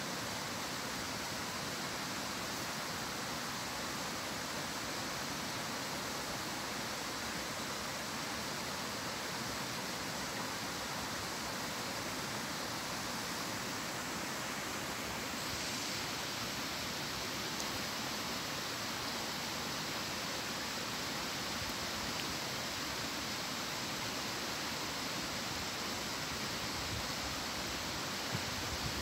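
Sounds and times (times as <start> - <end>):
stream running: 0.0 - 29.0.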